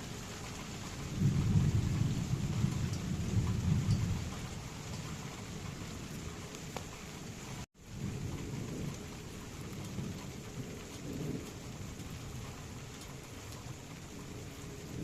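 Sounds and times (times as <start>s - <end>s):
rolling thunder rumbles: 0.0s - 15.0s
steady rain falling: 0.0s - 15.0s.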